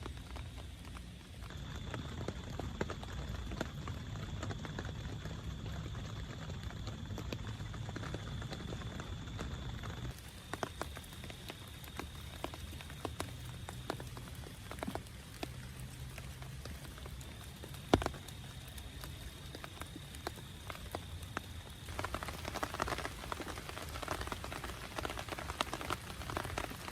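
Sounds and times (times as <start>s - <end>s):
raindrops tapping on tent fabric: 0.0s - 26.9s.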